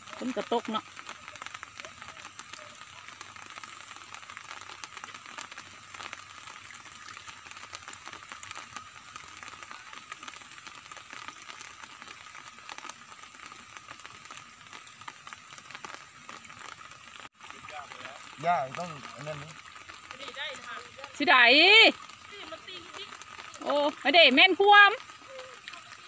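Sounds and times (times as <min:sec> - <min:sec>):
light rain pattering on water: 0:00.0 - 0:26.0.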